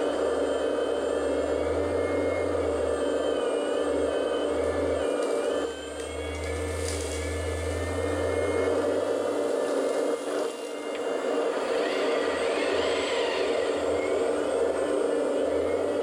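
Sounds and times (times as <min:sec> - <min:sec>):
hydraulic pump whirring: 0:00.0 - 0:16.0.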